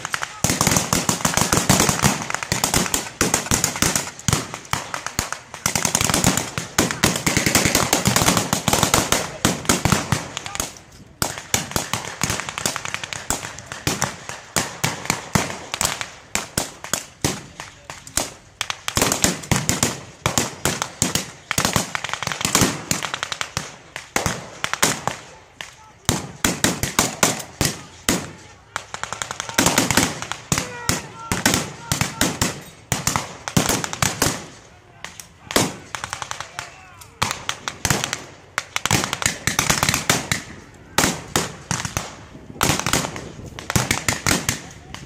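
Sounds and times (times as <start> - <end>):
rifles firing blanks: 0.0 - 45.0.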